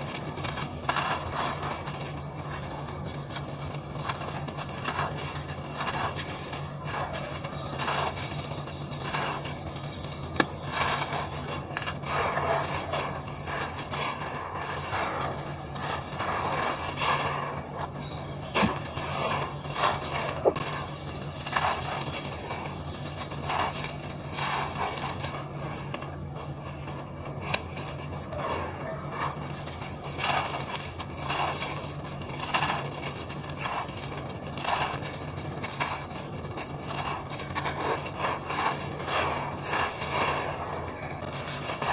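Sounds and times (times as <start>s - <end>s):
cement chunks crunching by hand: 0.0s - 41.9s.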